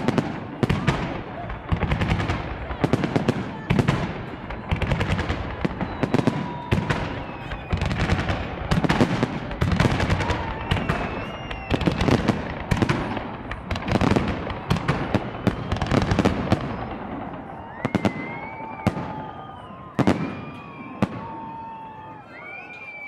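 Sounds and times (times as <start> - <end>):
fireworks crackling and bangs: 0.0 - 22.1.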